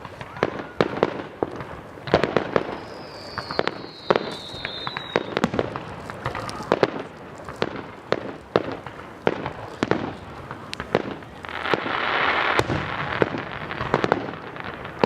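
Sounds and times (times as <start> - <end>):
fireworks bangs and pops: 0.0 - 15.0
fireworks hissing crackle: 0.0 - 15.0.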